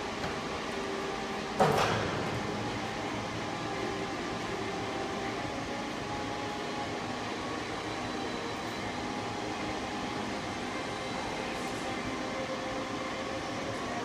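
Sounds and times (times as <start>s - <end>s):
machinery drone with hiss: 0.0s - 14.0s.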